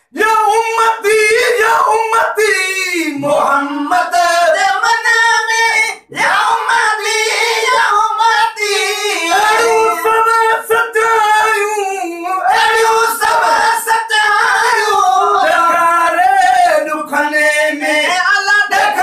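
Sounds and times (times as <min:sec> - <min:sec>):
men singing a devotional song: 0:00.0 - 0:19.0.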